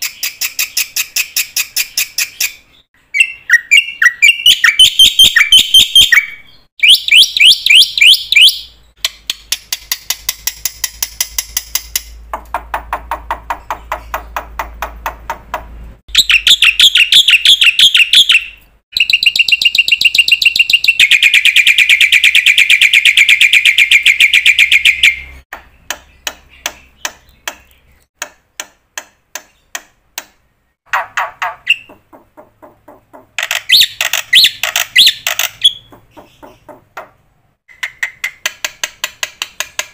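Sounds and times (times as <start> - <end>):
bird song trills and chirps: 0.0 - 12.2, 12.8 - 15.4, 16.1 - 38.4.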